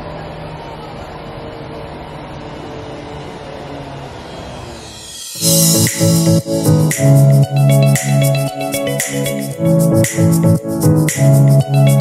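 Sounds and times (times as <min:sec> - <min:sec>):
bus engine running: 0:00.0 - 0:12.0
street traffic noise: 0:00.0 - 0:12.0.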